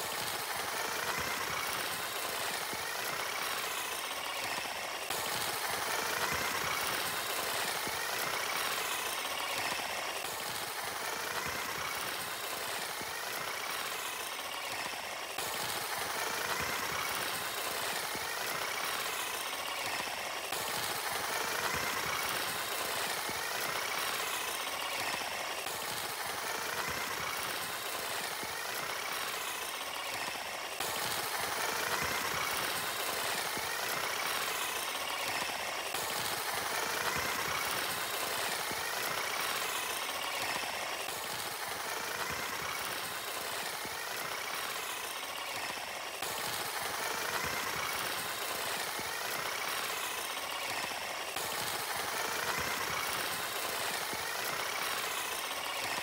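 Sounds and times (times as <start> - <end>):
machine engine running: 0.0 - 56.0.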